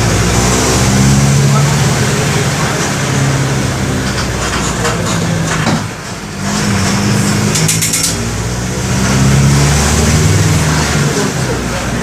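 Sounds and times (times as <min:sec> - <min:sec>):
bus diesel engine under load: 0:00.0 - 0:12.0.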